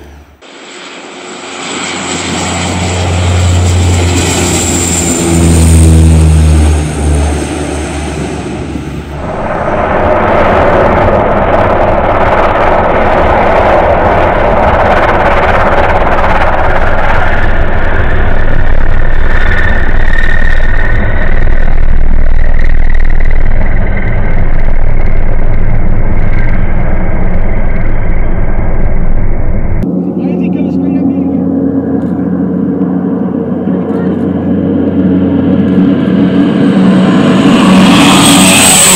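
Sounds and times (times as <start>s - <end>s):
propeller engines roaring: 0.0s - 38.9s.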